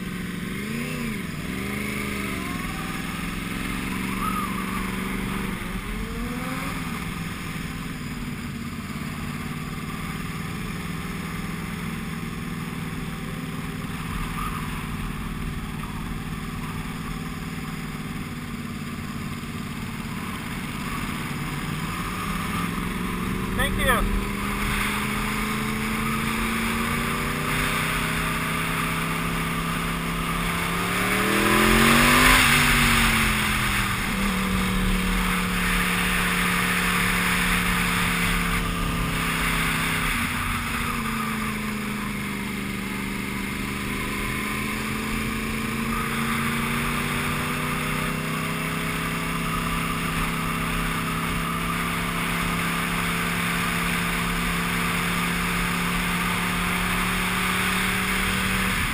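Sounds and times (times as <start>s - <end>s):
motorcycle engine: 0.0s - 58.9s.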